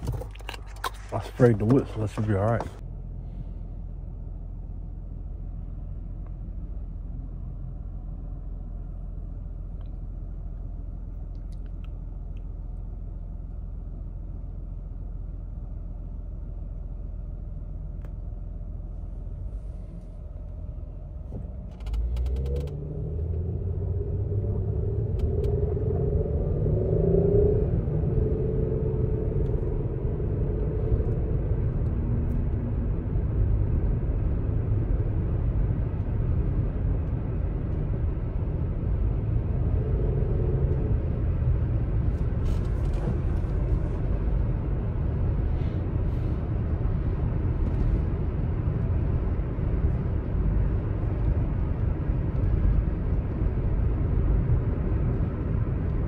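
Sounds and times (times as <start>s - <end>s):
road noise: 0.0s - 13.4s, 17.6s - 56.0s
car engine idling and revving: 0.0s - 56.0s.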